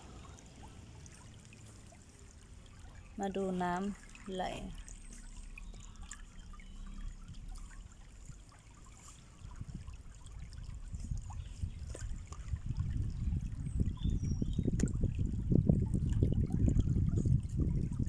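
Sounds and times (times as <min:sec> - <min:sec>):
stream trickling and splashing: 0:00.0 - 0:18.0.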